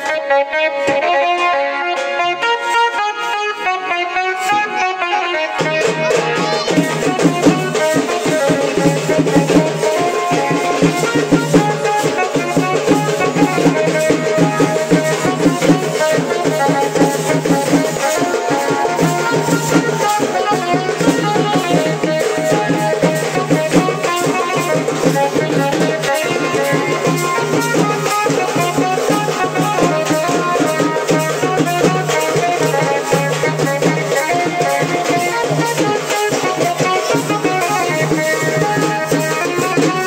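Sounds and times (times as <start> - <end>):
band playing a melody: 0.0 - 40.0
drumming and percussion: 0.0 - 40.0.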